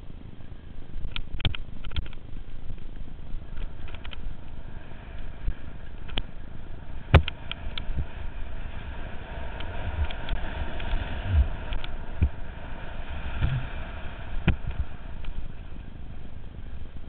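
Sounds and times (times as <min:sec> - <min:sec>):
bike riding rumble: 0:00.0 - 0:17.0
wind on microphone: 0:00.0 - 0:17.0.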